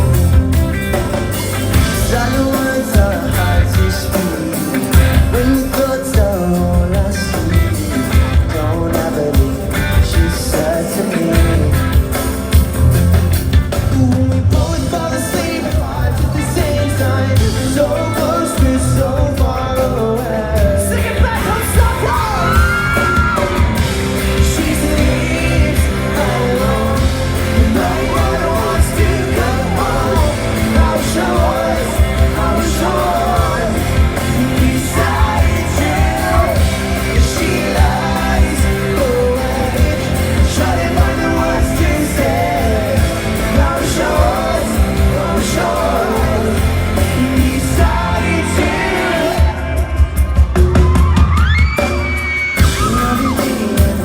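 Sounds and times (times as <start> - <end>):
pop-rock band playing live: 0.0 - 54.0
lead singer singing: 1.3 - 12.6, 13.7 - 54.0.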